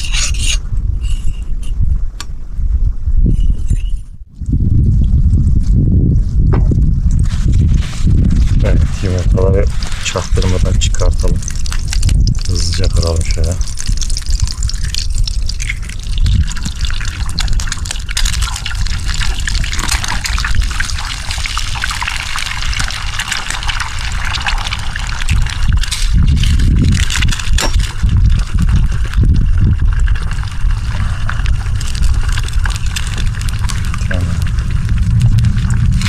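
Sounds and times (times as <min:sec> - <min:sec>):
wind rumbling on microphone: 0:00.0 - 0:36.0.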